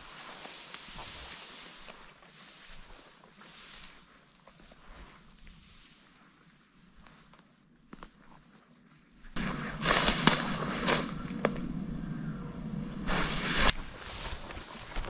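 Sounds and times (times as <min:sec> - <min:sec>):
footsteps: 0:00.0 - 0:06.2, 0:07.0 - 0:15.0
grass rustling against clothing: 0:00.0 - 0:15.0.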